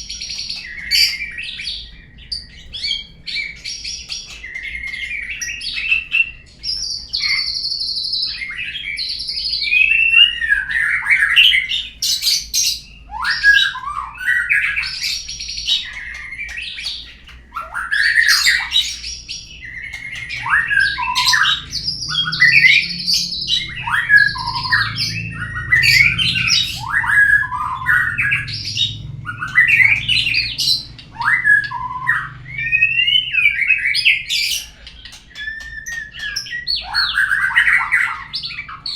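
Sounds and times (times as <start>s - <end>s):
songbird whistling and chattering: 0.0s - 38.9s.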